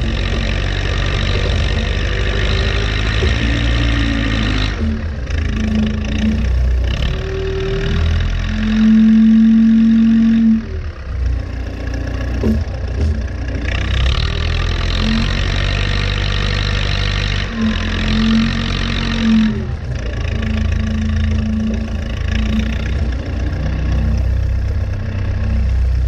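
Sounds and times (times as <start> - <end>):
diesel engine running under load: 0.0 - 26.0
steady whine: 0.0 - 26.0.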